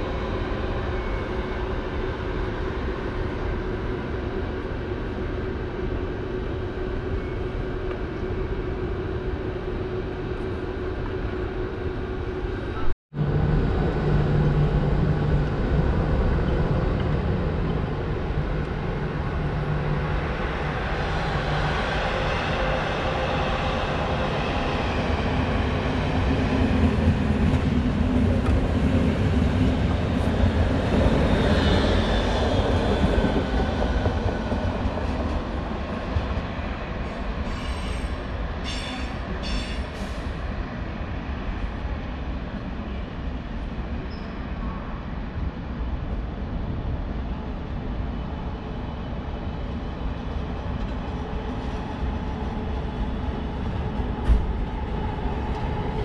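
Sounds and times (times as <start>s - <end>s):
train rumbling on tracks: 0.0s - 56.0s.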